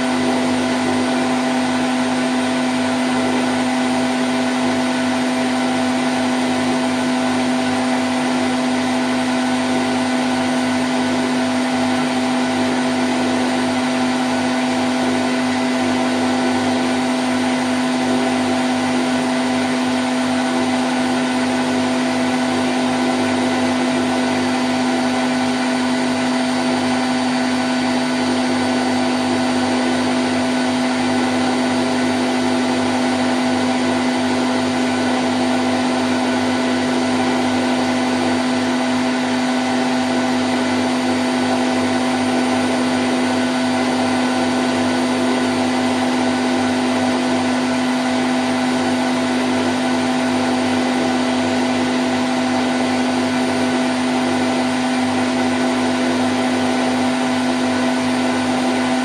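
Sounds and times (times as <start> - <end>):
washing machine spin cycle: 0.0 - 59.0.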